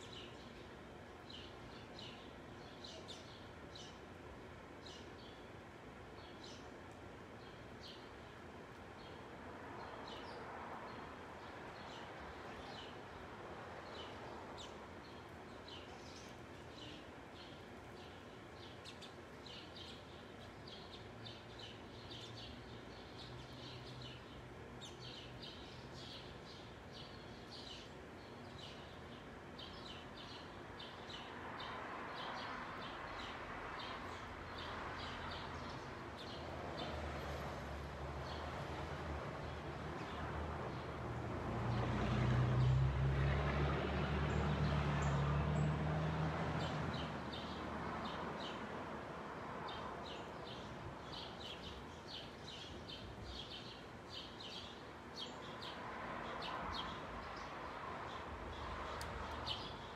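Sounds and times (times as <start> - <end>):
small birds chirping: 0.0 - 41.8, 46.6 - 48.9, 49.6 - 59.9.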